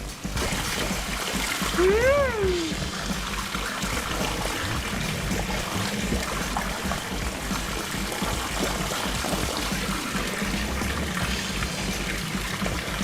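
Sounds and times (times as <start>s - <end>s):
background music: 0.0s - 13.0s
water trickling and pouring: 0.0s - 13.0s.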